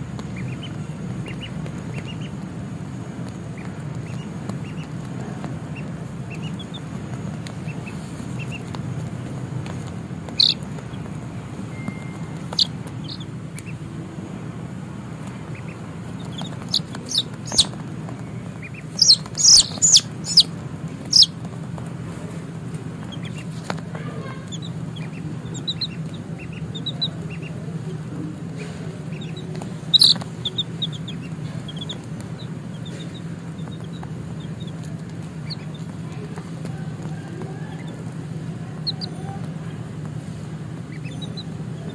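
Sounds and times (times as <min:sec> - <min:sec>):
baby chicks peeping: 0:00.0 - 0:41.9
steady low hum: 0:00.0 - 0:41.9.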